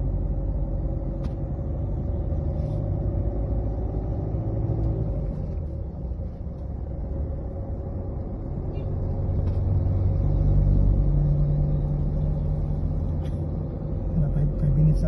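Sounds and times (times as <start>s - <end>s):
road rumble: 0.0s - 15.0s
vehicle engine: 0.0s - 15.0s.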